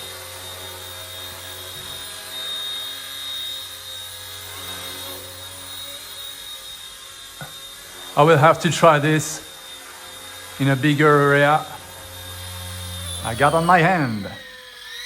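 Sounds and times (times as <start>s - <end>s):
electric motor whine: 0.0s - 15.0s
helicopter rotor hum: 0.0s - 15.0s.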